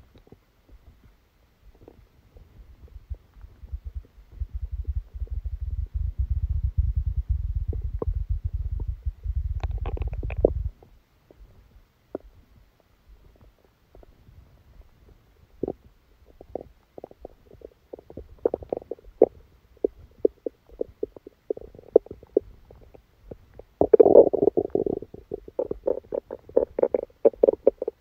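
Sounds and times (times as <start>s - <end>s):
stomach gurgling and rumbling: 0.0s - 28.0s.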